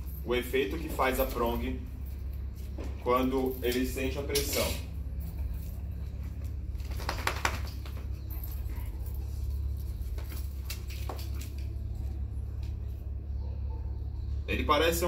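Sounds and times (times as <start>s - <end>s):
metal collar links clicking: 0.0s - 12.9s
steady low hum: 0.0s - 15.0s.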